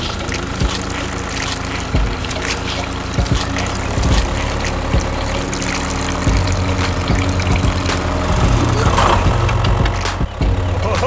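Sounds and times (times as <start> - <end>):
liquid pouring into metal bucket: 0.0 - 10.2
small motor humming with knocks: 0.0 - 10.6.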